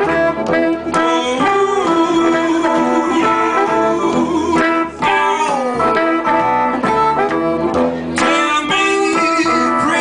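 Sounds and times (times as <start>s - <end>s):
blues harmonica: 0.0s - 10.0s
double bass: 0.0s - 10.0s
electric guitar: 0.0s - 10.0s.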